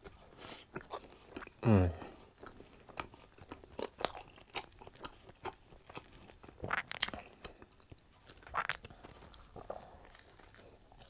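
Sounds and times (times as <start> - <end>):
chewing crunchy food: 0.0 - 11.0.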